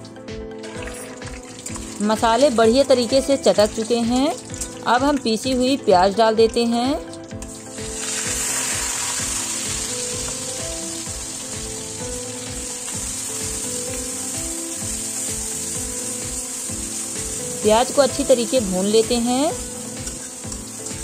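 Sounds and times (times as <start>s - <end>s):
onion paste sizzling in oil: 0.7s - 6.1s, 7.4s - 21.0s.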